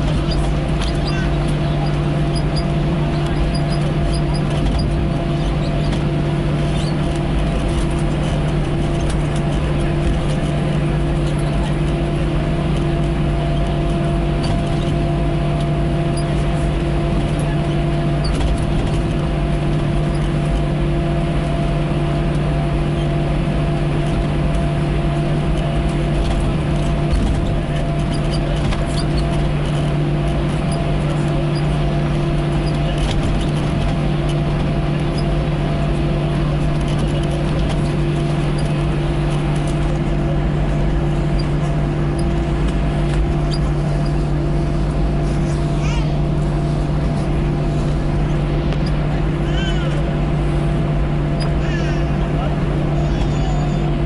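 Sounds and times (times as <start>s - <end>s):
jet engines idle hum: 0.0s - 54.0s.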